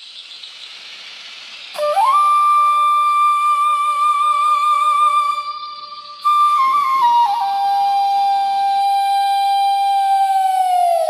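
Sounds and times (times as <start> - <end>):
background hiss: 0.0 - 11.0
low sustained tone: 1.2 - 11.0
flute melody: 1.8 - 11.0.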